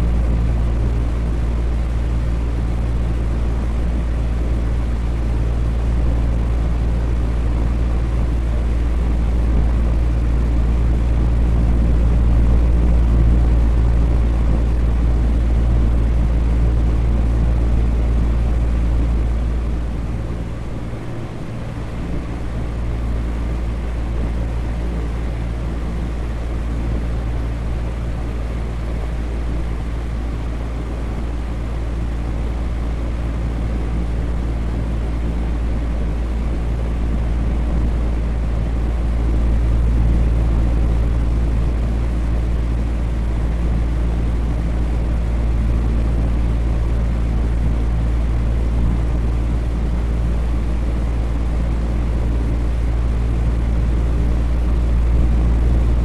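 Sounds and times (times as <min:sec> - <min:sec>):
electric fan droning: 0:00.0 - 0:56.0.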